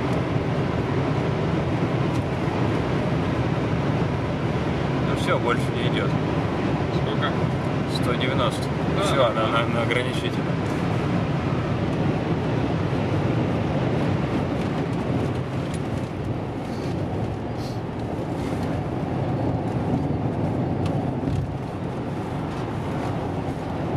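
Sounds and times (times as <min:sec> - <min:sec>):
engine drone: 0:00.0 - 0:23.9.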